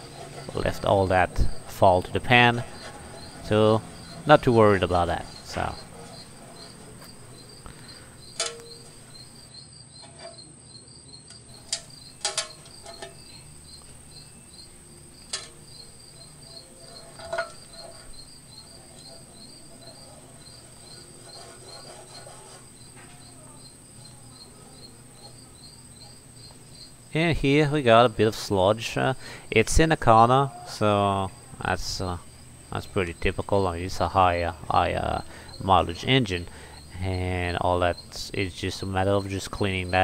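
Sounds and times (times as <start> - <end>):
constant high-pitched hum: 0.0 - 40.0
insects chirping: 0.0 - 40.0.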